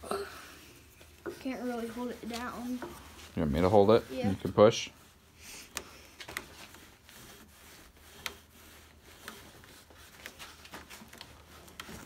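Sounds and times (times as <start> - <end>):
wood rubbing on wood: 0.5 - 12.0.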